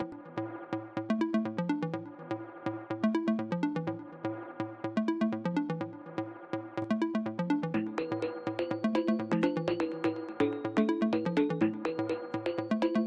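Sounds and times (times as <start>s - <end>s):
electronic music with synth and beat: 0.0s - 13.0s.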